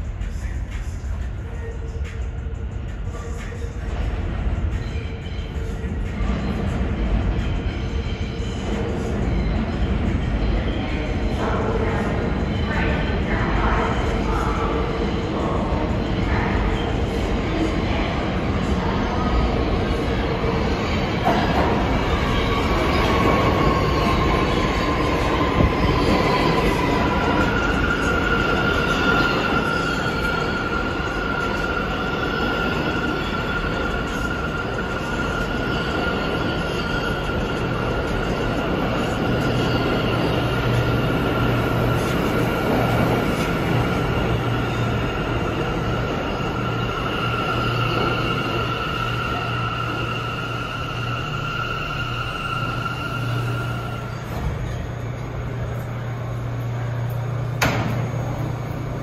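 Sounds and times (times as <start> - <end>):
subway train wheels squealing: 0.0 - 59.0
train rumble: 0.0 - 59.0.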